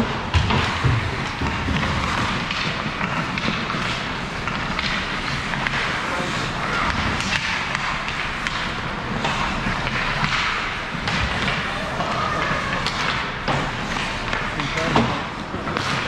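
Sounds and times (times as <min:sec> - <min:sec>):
skates scraping ice: 0:00.0 - 0:16.0
sticks and puck clicking: 0:00.5 - 0:16.0.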